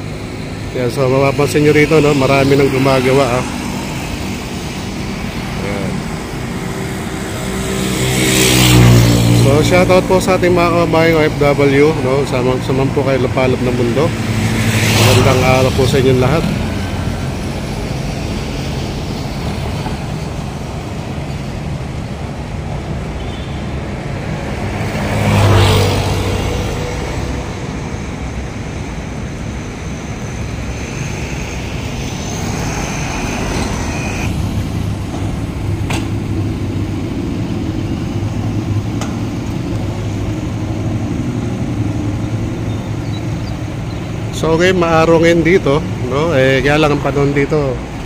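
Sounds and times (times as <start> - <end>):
road traffic: 0.0 - 48.0
vehicle passing close: 0.0 - 48.0.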